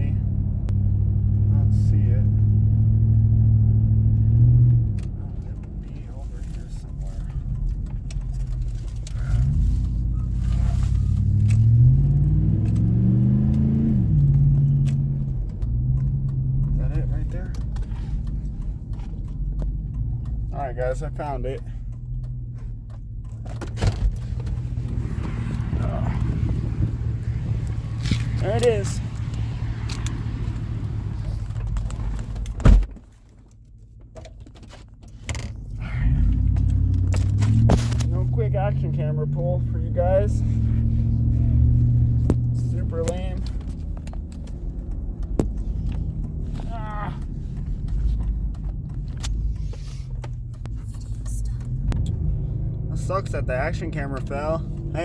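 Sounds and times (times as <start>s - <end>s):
truck engine accelerating: 0.0s - 32.9s, 34.8s - 55.0s.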